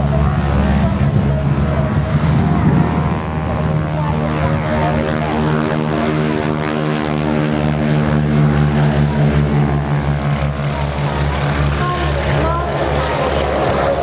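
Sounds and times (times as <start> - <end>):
biplane propeller drone: 0.0 - 14.0.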